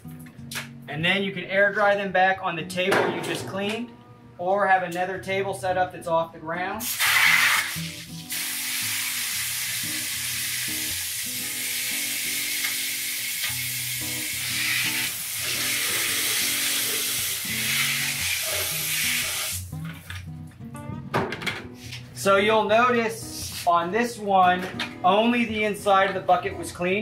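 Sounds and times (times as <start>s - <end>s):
soft background music: 0.0s - 7.0s, 7.7s - 27.0s.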